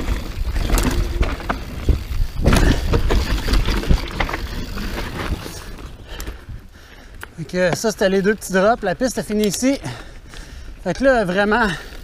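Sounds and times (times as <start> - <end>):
bike knocking and rattling: 0.0 - 12.0.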